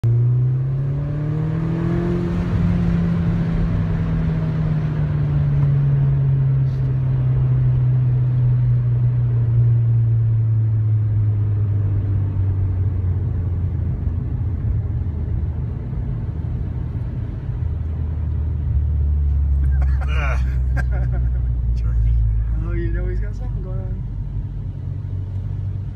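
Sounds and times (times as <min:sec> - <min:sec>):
car engine steady note: 0:00.0 - 0:25.9.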